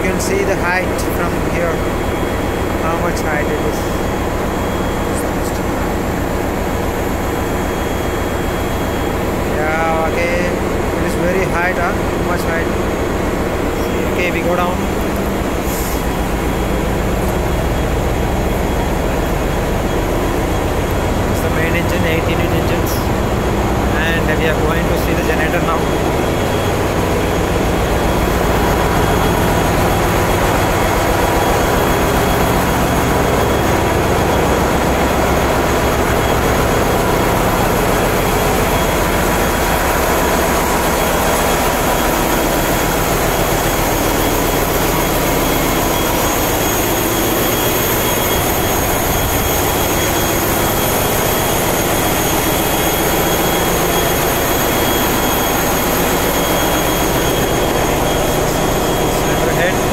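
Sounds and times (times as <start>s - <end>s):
diesel generator engines running: 0.0s - 59.9s
thin high whines: 1.2s - 59.9s.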